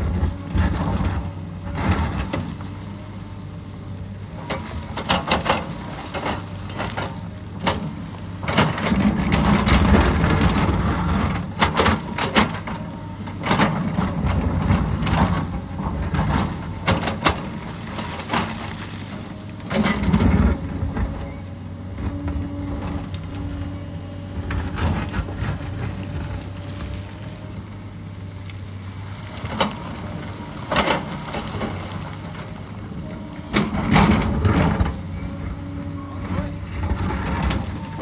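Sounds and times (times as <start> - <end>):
excavator diesel engine under load: 0.0 - 38.0.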